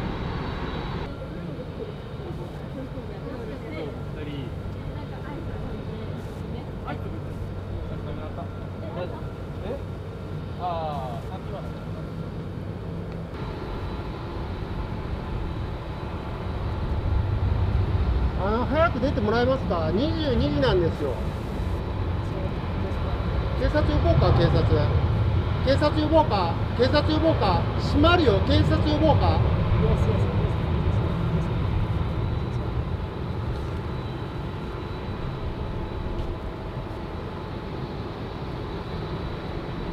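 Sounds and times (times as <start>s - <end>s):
distant jet engines rumbling: 0.0s - 39.9s.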